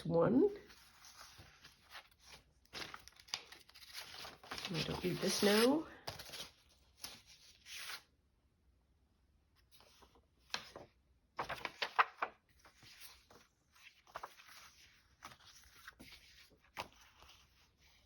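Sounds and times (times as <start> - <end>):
papers rustling: 0.6 - 8.0, 9.8 - 18.0.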